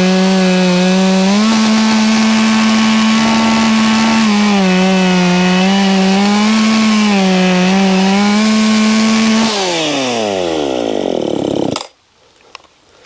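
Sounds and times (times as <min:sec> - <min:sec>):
chainsaw cutting wood: 0:00.0 - 0:11.9.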